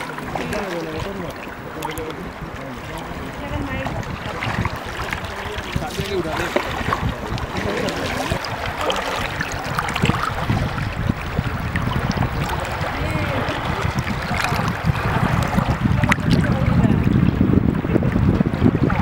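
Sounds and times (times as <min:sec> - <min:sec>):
paddles in water: 0:00.0 - 0:19.0
river water rushing and splashing: 0:00.0 - 0:19.0
low rumble: 0:02.3 - 0:19.0.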